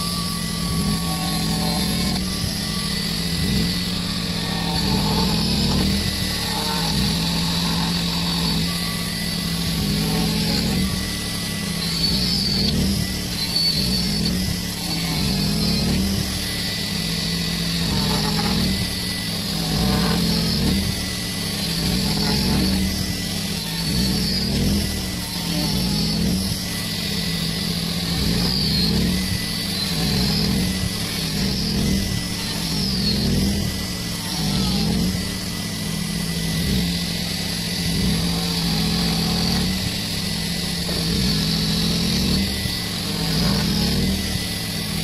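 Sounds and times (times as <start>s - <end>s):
angle grinder cutting wood: 0.0s - 45.0s.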